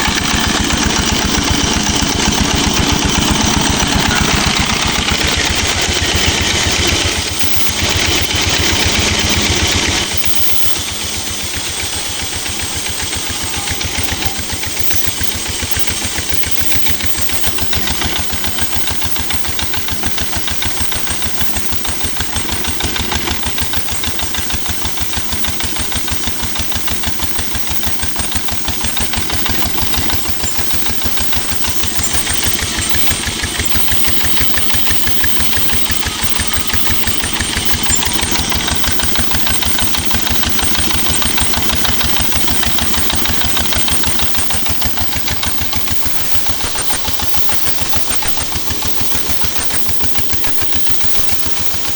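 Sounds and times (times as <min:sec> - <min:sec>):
old engine running: 0:00.0 - 0:51.9.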